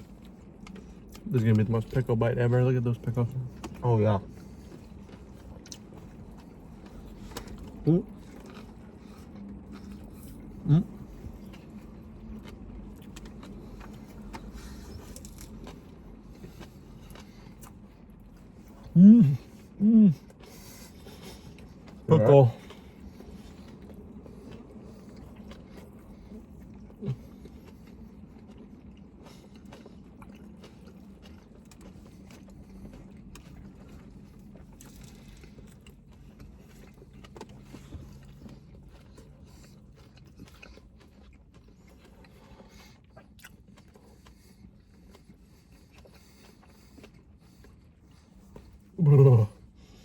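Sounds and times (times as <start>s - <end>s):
low steady hum: 0.0s - 50.0s
people chewing with crunches: 0.0s - 50.0s.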